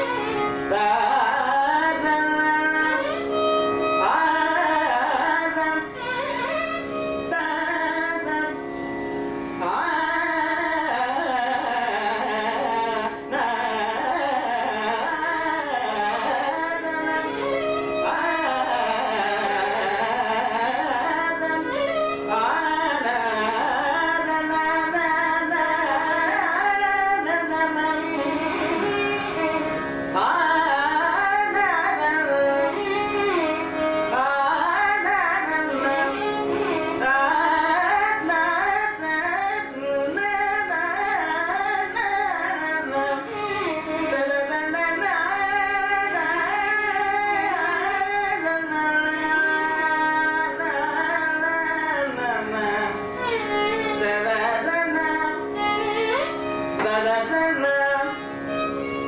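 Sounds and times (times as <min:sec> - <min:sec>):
man singing ornamented melody: 0:00.0 - 0:08.6, 0:09.5 - 0:59.0
violin melody: 0:00.0 - 0:59.0.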